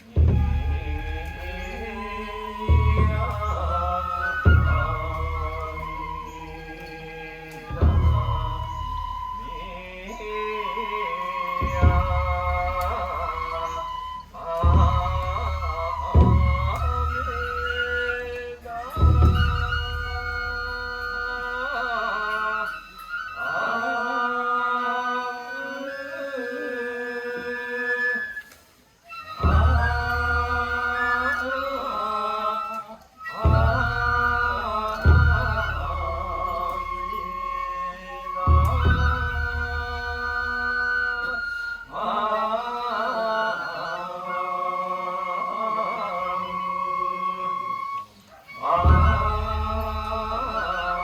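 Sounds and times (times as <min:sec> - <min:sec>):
chanting with long wavering notes: 0:00.0 - 0:51.0.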